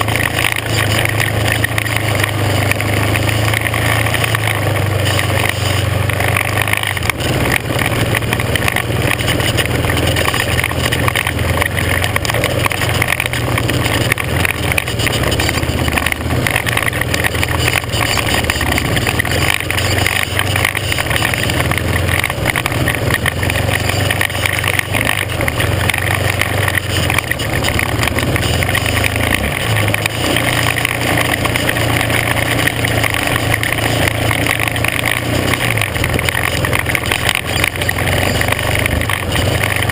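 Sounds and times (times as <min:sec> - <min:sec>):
off-road vehicle engine running: 0:00.0 - 0:39.9
rattles and jolts: 0:00.0 - 0:39.9
tyres on gravel: 0:00.0 - 0:39.9.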